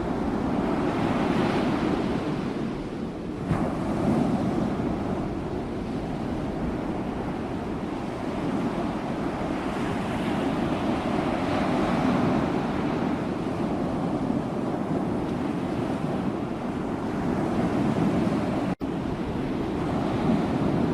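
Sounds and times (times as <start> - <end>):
sea waves washing onto shore: 0.0 - 20.9.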